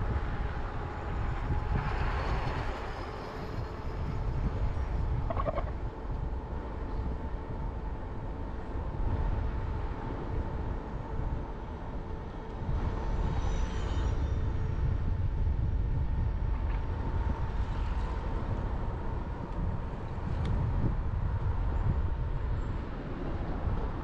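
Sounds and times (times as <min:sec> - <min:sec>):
low rumble of passing cars: 0:00.0 - 0:24.0.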